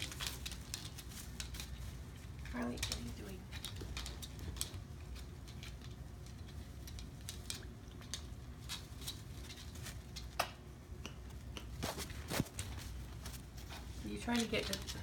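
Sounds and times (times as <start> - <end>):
low steady hum: 0.0 - 15.0
parrot beak clicking and crunching: 0.0 - 15.0.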